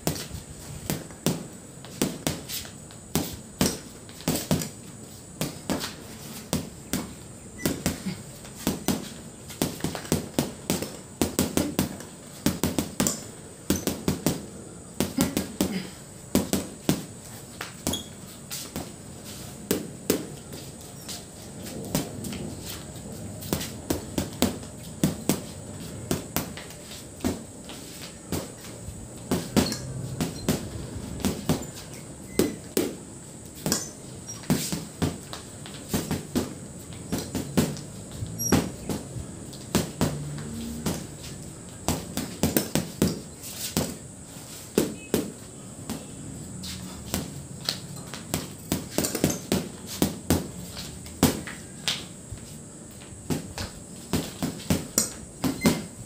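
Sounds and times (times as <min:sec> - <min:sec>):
boxing gloves punching heavy bag: 0:00.0 - 0:02.5, 0:03.1 - 0:04.8, 0:05.4 - 0:22.7, 0:23.4 - 0:33.0, 0:33.6 - 0:44.0, 0:44.7 - 0:46.1, 0:46.7 - 0:47.4, 0:48.1 - 0:50.6, 0:53.3 - 0:55.9.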